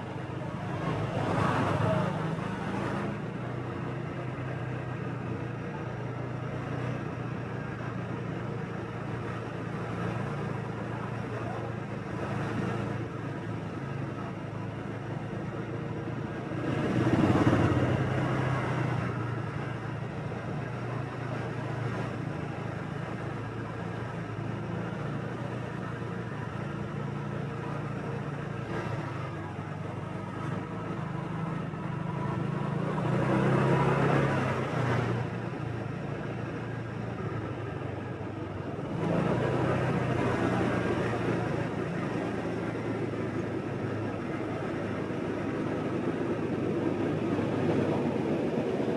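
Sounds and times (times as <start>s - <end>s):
road noise: 0.0s - 48.9s
vehicles passing close: 0.0s - 48.9s.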